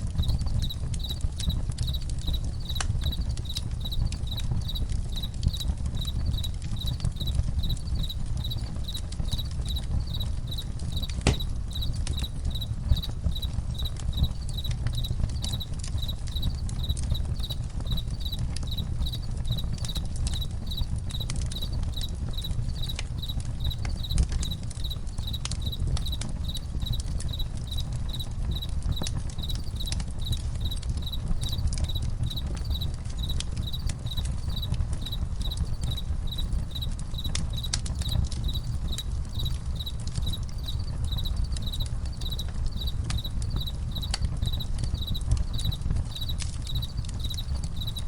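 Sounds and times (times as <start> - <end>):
campfire crackling: 0.0 - 48.0
crickets chirping: 0.2 - 48.0.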